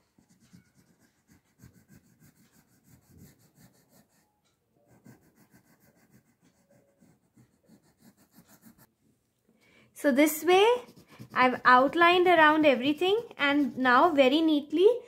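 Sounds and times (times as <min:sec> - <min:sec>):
crayon scratching on paper: 0:00.0 - 0:08.9, 0:10.2 - 0:14.8.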